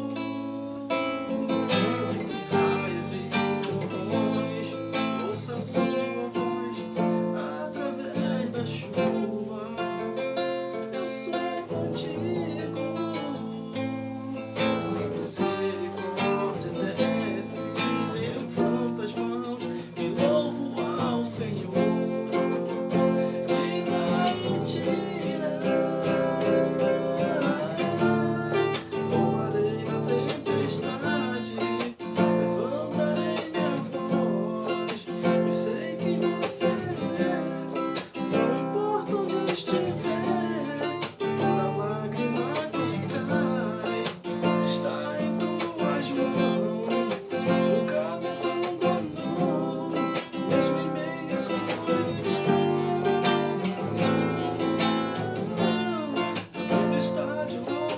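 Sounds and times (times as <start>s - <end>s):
acoustic guitar strumming and picking: 0.0s - 57.9s
person singing: 0.0s - 57.9s.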